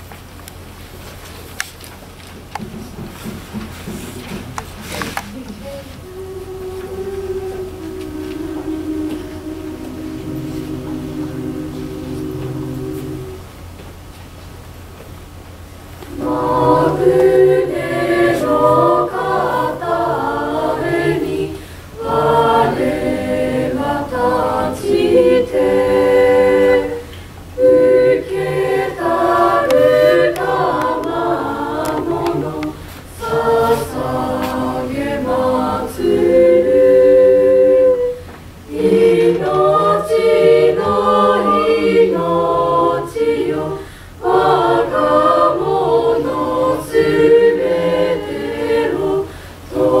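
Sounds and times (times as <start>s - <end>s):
children's choir singing a cappella: 3.2s - 14.0s, 15.6s - 50.0s.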